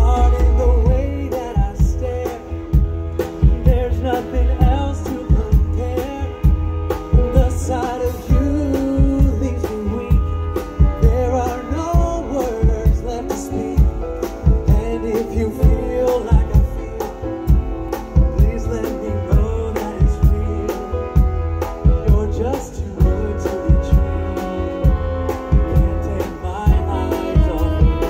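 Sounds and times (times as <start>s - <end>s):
man singing: 0.0s - 28.0s
swing band playing: 0.0s - 28.0s.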